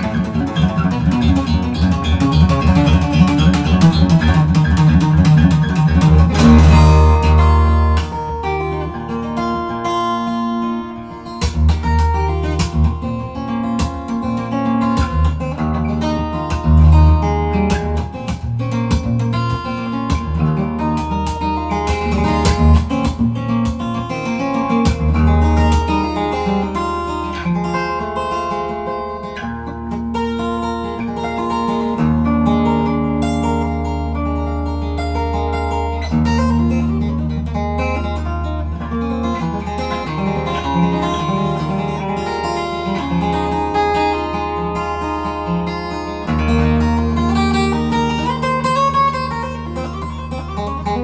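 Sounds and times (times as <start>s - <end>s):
fingerstyle steel-string guitar: 0.0s - 51.0s.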